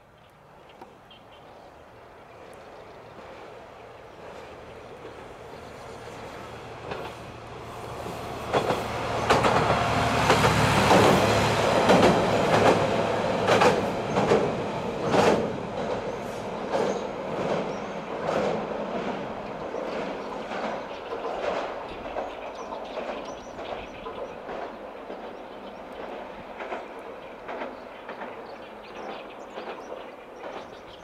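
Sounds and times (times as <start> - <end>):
railcar wheels clacking over joints: 3.6 - 31.0.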